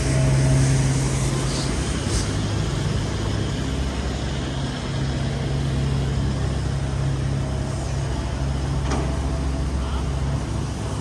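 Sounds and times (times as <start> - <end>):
city street noise: 0.0 - 11.0
vehicle engine idling: 0.0 - 11.0.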